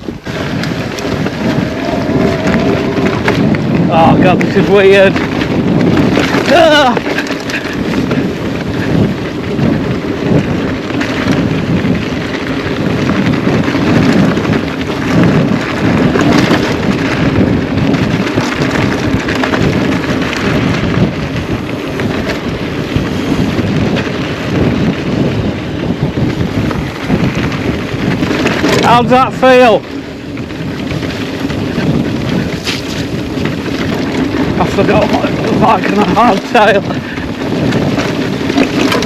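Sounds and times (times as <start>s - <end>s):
mountain bike rumbling and knocking: 0.0s - 39.0s
wind buffeting microphone: 0.0s - 39.0s.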